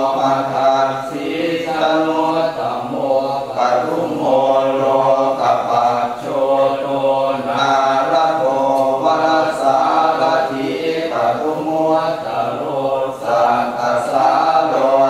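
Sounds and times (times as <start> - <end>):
low male voices chanting: 0.0 - 15.0.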